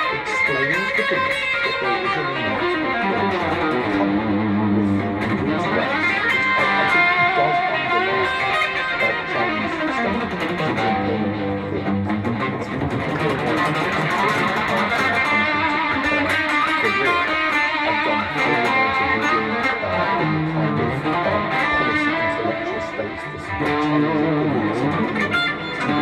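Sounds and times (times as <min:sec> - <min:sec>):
solo guitar playing: 0:00.0 - 0:26.0.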